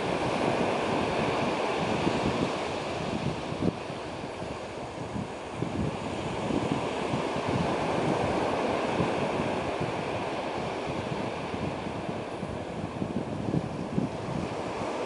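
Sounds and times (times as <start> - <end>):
surf washing up beach: 0.0 - 15.0
wind buffeting microphone: 0.0 - 15.0.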